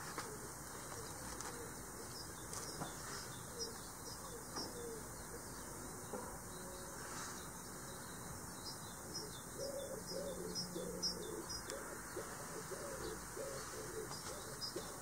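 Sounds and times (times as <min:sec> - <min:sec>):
low cooing bird calls: 0:00.0 - 0:08.2, 0:08.9 - 0:15.0.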